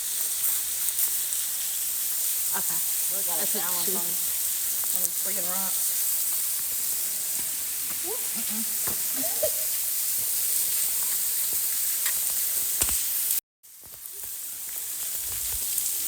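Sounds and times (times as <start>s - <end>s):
waterfall hissing: 0.0s - 16.0s.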